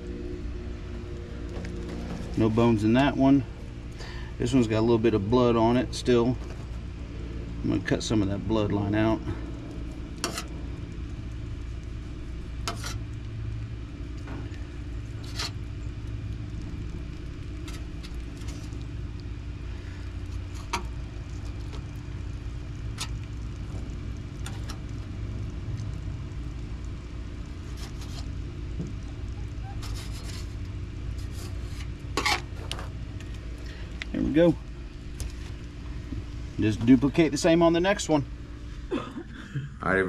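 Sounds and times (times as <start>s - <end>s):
low motor hum: 0.0s - 40.0s.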